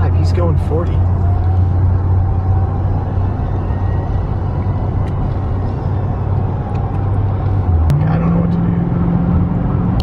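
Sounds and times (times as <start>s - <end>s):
car engine hum: 0.0s - 10.0s
road and tyre noise: 0.0s - 10.0s.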